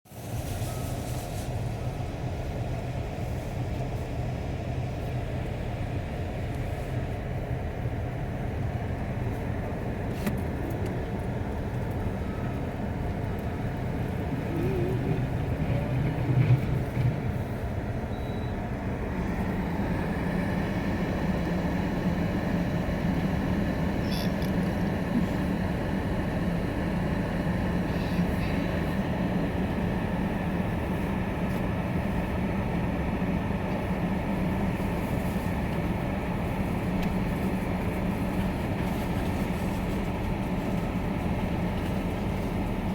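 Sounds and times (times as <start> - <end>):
loader engine running: 0.2 - 42.9.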